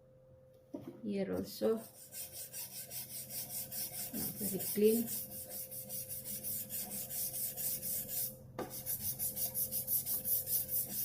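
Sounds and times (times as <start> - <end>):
small brush scrubbing metal part: 1.8 - 11.0.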